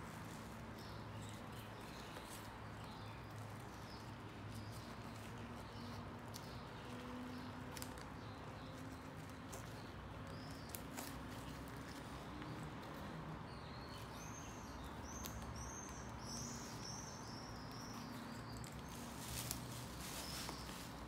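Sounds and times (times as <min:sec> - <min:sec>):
bird chirping: 0:00.2 - 0:21.0.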